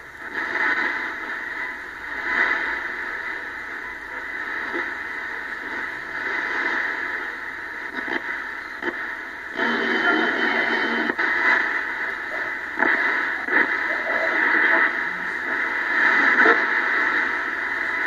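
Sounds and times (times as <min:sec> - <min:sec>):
radio static and hiss: 0:00.0 - 0:18.0.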